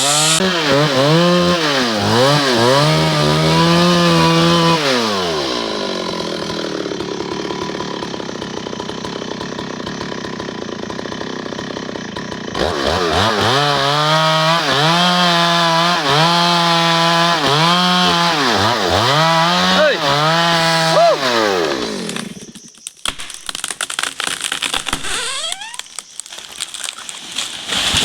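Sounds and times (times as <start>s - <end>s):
chainsaw running: 0.0s - 26.8s.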